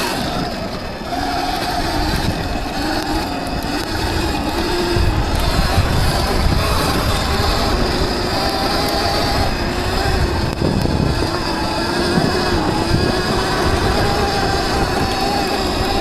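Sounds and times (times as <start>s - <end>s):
electric motor whining: 0.0s - 16.0s
low rumble from rough ground: 0.0s - 16.0s.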